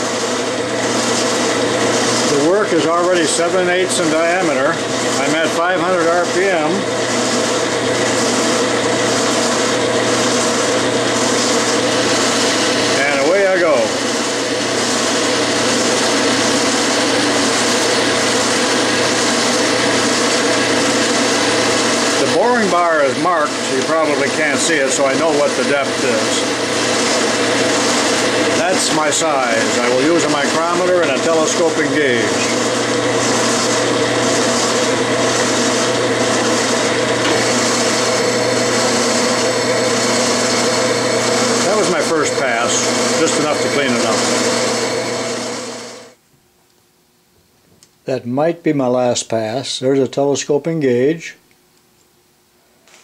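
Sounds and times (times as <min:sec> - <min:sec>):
boring bar cutting metal: 0:00.0 - 0:46.2
metal lathe whirring: 0:00.0 - 0:46.2.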